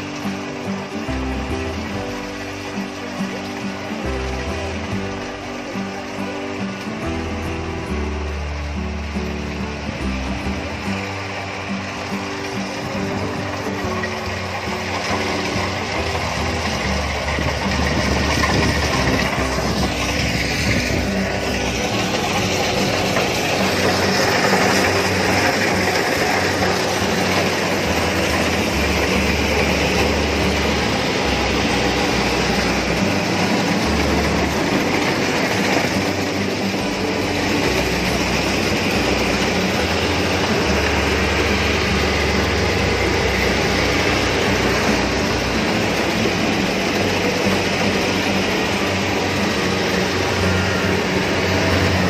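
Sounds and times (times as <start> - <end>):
engine drone: 0.0 - 52.0
harvester mechanical clatter: 0.0 - 52.0.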